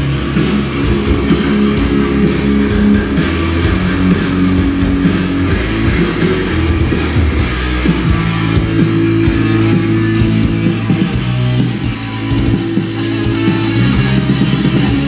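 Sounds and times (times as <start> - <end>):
loud rock music through speakers: 0.0 - 15.0.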